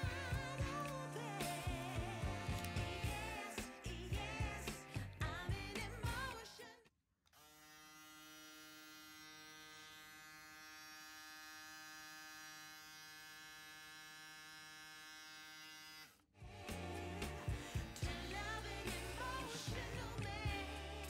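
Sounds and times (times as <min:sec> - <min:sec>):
electric shaver humming: 0:00.0 - 0:06.2, 0:07.4 - 0:21.0.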